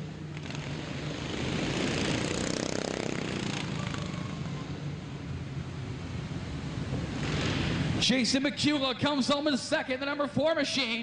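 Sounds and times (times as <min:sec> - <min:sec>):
racing lawn mower engines: 0:00.0 - 0:11.0.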